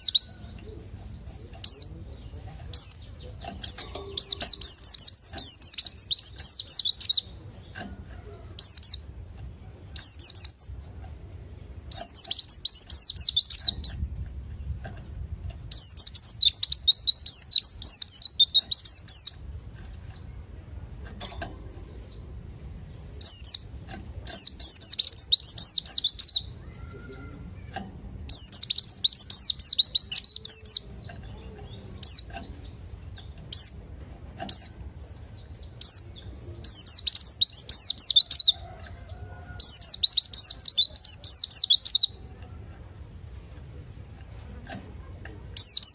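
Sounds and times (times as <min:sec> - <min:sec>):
bird twittering song: 0:00.0 - 0:42.4, 0:45.4 - 0:45.9.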